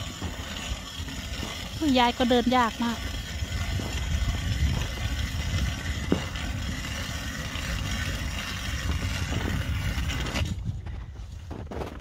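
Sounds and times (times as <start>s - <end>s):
ice auger grinding: 0.0s - 12.0s.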